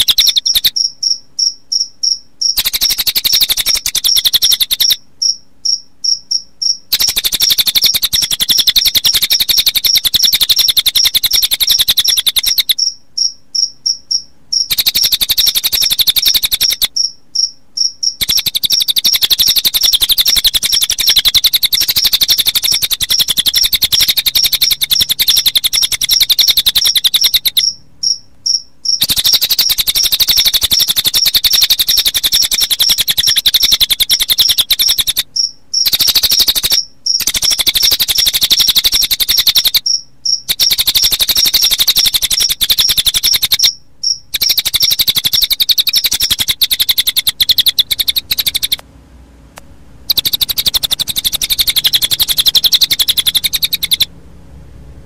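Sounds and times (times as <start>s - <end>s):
bird high-pitched trill: 0.0s - 48.8s, 50.1s - 54.1s
cricket chirping: 0.0s - 48.8s, 50.1s - 54.1s.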